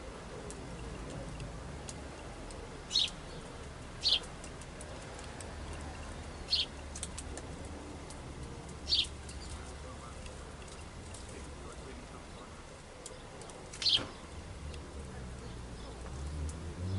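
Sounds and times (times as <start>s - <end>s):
small birds high chirps: 0.4s - 7.2s, 8.1s - 10.9s, 12.1s - 16.9s.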